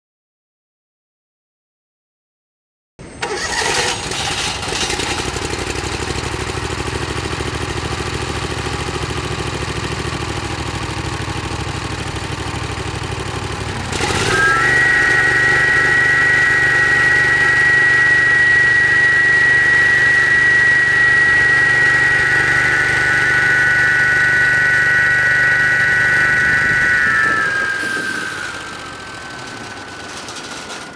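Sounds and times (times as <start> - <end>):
concrete saw engine: 3.2 - 30.9.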